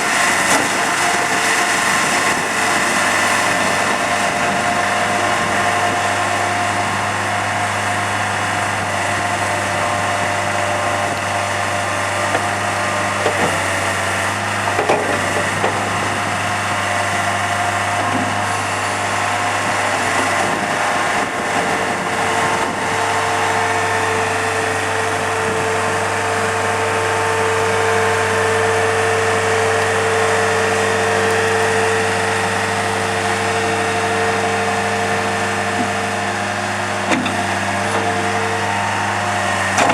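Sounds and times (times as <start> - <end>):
skid steer loader engine running: 0.0 - 39.9.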